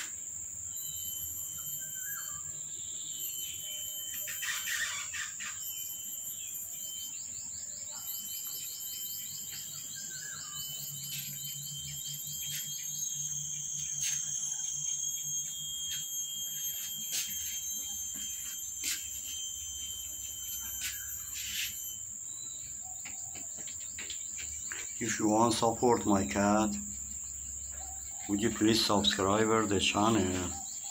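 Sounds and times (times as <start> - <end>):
fast pulsing insect chirp: 0.0 - 30.9
insects trilling: 0.0 - 30.9.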